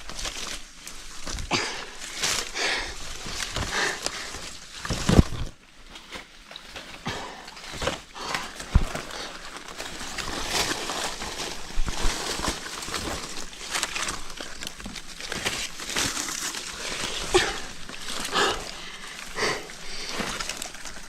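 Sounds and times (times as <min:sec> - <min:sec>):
irregular rustling: 0:00.0 - 0:21.0.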